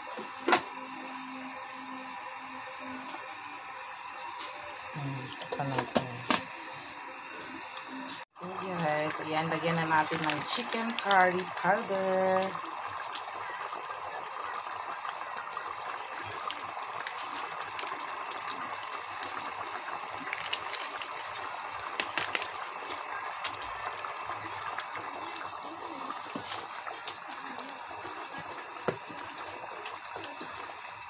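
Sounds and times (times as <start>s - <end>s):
curry bubbling on the boil: 0.0s - 31.0s.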